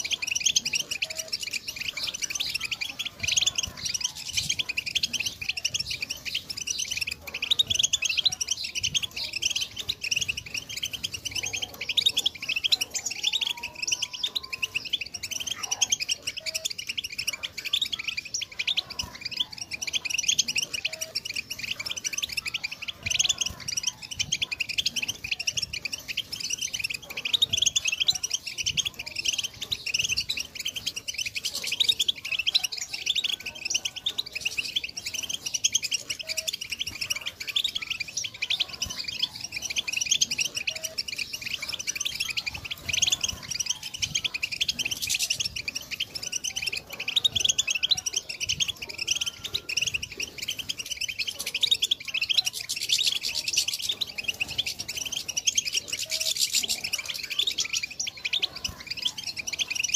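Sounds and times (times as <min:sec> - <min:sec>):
goldfinches twittering and singing: 0:00.0 - 0:59.9.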